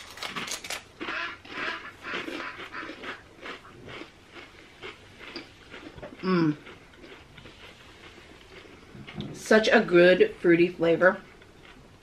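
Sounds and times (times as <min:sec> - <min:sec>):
people chewing crunchy chips: 0:00.0 - 0:09.6, 0:11.2 - 0:12.0.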